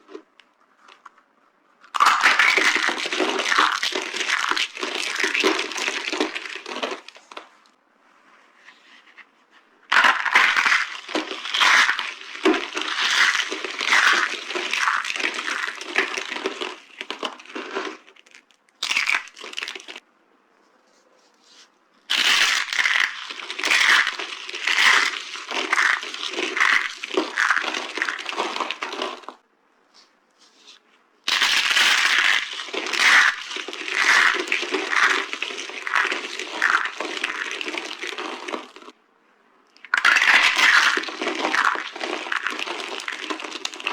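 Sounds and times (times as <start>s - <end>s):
soap crushed crackling: 1.8s - 7.7s, 9.9s - 20.0s, 22.1s - 29.4s, 30.0s - 39.0s, 39.7s - 43.9s.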